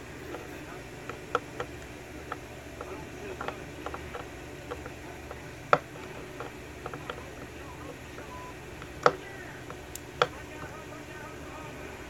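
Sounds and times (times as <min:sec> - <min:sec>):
screwdriver clicks and scrapes: 0:00.2 - 0:10.4.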